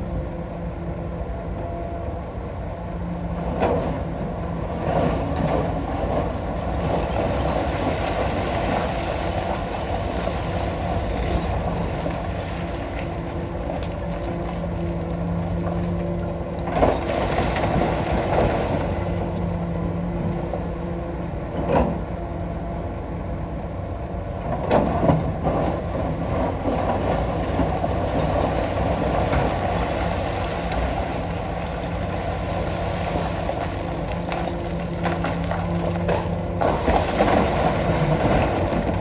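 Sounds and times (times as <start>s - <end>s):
excavator diesel engine: 0.0s - 39.0s.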